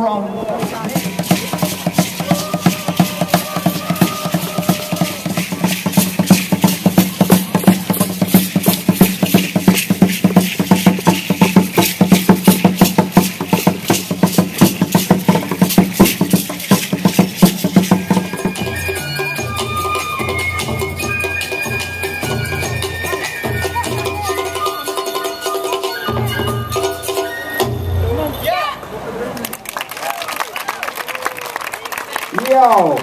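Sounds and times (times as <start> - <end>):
drums in a fast beat: 0.4 - 28.4.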